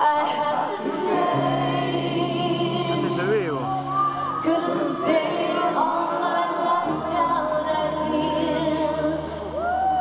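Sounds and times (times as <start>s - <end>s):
woman singing: 0.0s - 3.1s, 3.7s - 10.0s
live pop music: 0.0s - 10.0s.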